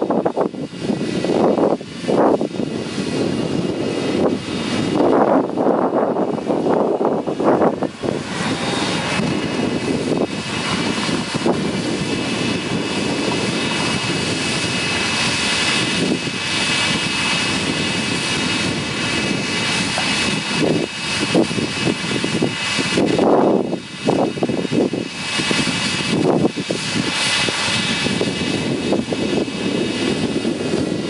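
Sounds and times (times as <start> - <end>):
harvester engine running: 0.0 - 31.0.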